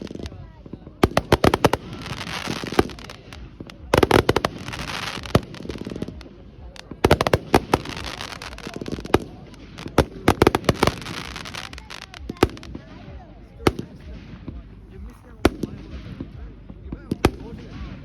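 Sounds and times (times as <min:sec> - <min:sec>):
fireworks bangs: 0:00.0 - 0:18.0
fireworks crackling and fizzing: 0:00.0 - 0:18.0.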